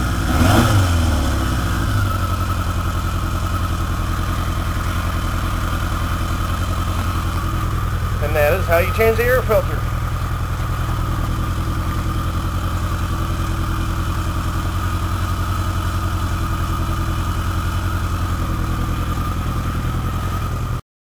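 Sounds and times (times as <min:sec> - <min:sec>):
motorcycle engine idling: 0:00.0 - 0:20.8.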